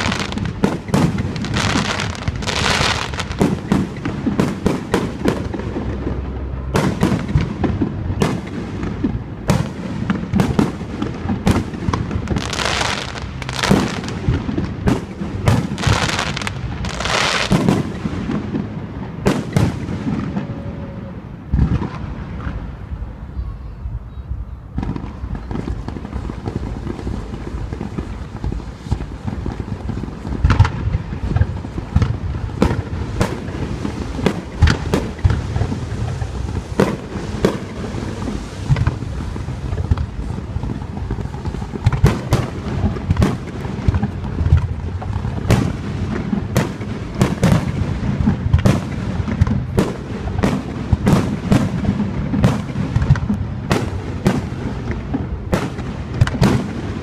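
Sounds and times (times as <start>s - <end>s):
fireworks bursting and booming: 0.0s - 57.0s
fireworks crackling: 0.0s - 57.0s.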